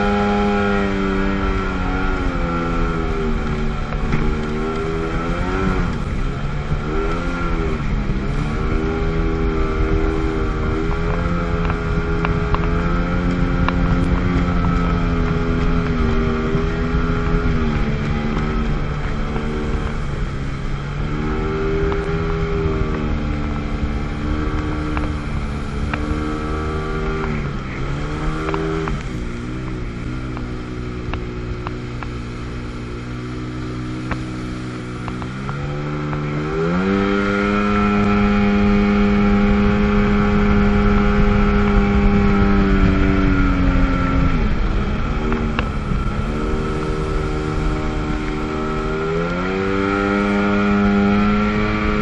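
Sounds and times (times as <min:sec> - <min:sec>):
jet ski engine revving: 0:00.0 - 0:52.0
rumble of wind and water: 0:00.0 - 0:52.0.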